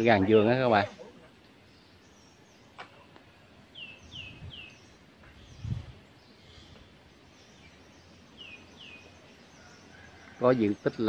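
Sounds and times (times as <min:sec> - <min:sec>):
outdoor background noise: 0:00.0 - 0:11.0
small bird chirping: 0:00.0 - 0:11.0.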